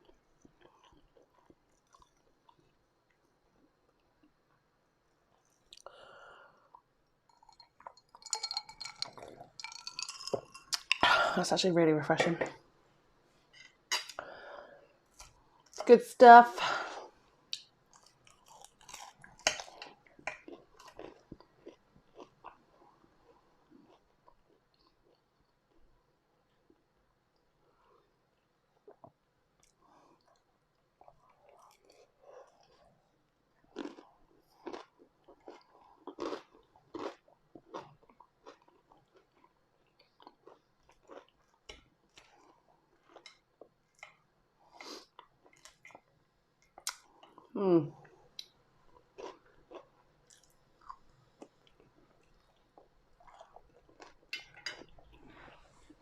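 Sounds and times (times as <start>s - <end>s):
chewing crunchy food: 0.0s - 11.0s, 17.1s - 56.0s.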